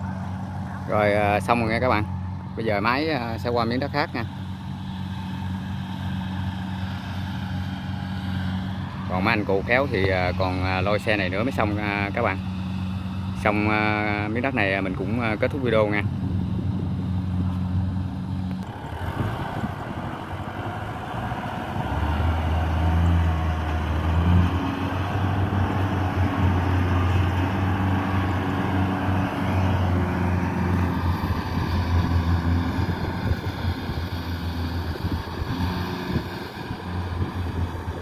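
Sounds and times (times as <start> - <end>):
farm machinery engine humming: 0.0 - 38.0.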